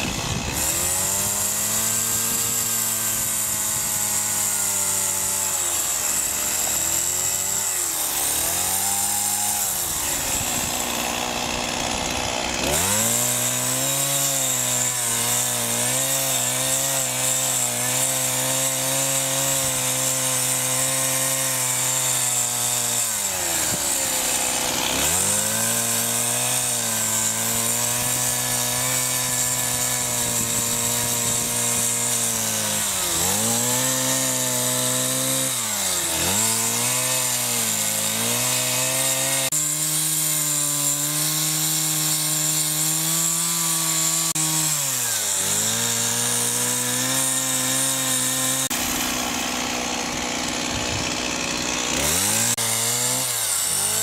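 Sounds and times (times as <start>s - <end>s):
chainsaw running at high revs: 0.0s - 54.0s.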